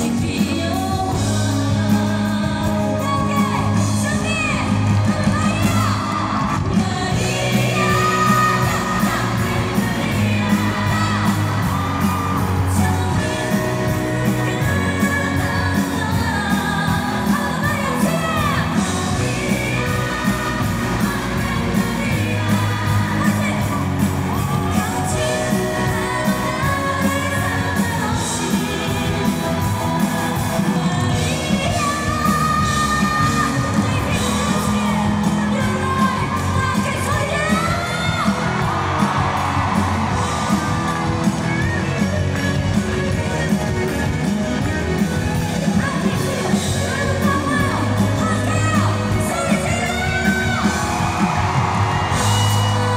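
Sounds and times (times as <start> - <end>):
woman singing into microphone: 0.0 - 44.7, 45.6 - 51.1
amplified band with steady beat: 0.0 - 52.9
audience yelling: 3.0 - 52.9.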